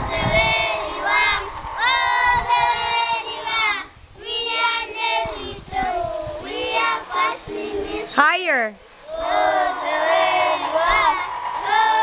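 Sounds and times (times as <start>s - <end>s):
children singing in unison: 0.0s - 8.2s, 9.0s - 12.0s.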